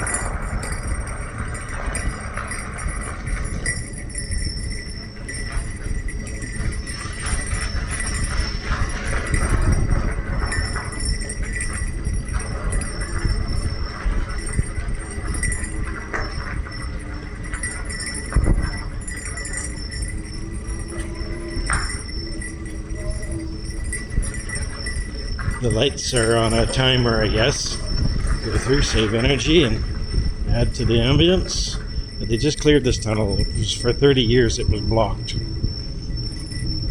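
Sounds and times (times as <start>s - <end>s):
bicycle rattling: 0.0s - 36.9s
faint high jingling: 0.0s - 36.9s
wind rumble on microphone: 0.0s - 36.9s.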